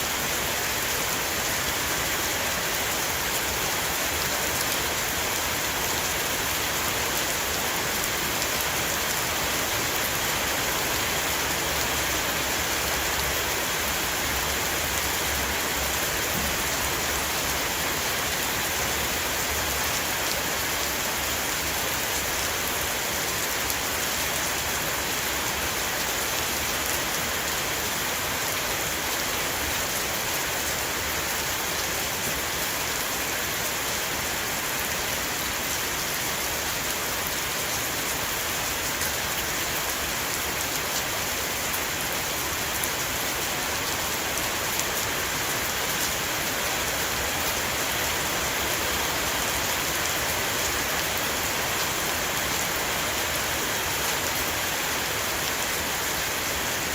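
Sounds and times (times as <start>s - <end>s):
heavy rain on a roof: 0.0s - 56.9s.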